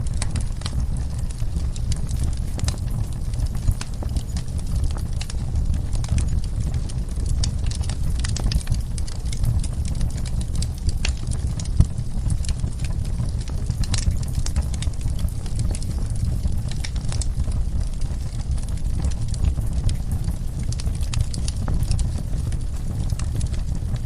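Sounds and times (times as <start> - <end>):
sharp fire pops: 0.0 - 24.0
steady low rumble: 0.0 - 24.0
wood fire crackling: 0.0 - 24.0.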